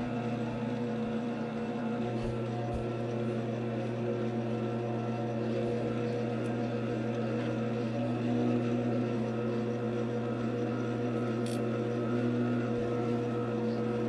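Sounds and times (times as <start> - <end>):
wood lathe motor hum: 0.0 - 14.0.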